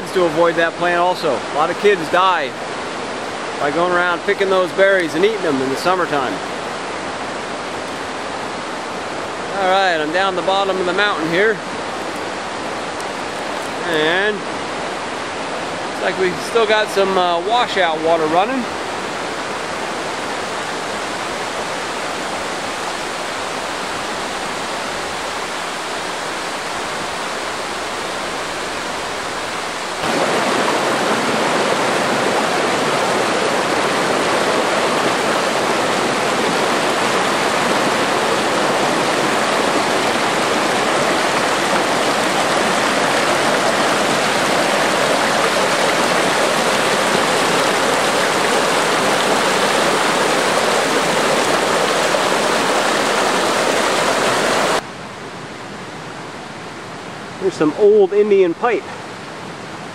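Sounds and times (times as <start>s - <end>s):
water rushing down a stream: 0.0s - 59.9s.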